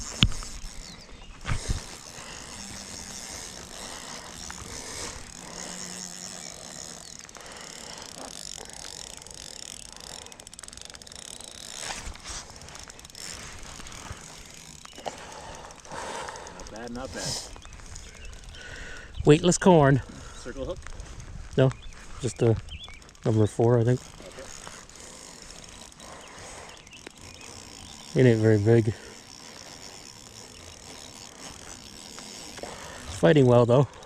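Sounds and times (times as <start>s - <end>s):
fishing reel clicking: 0.0s - 34.0s.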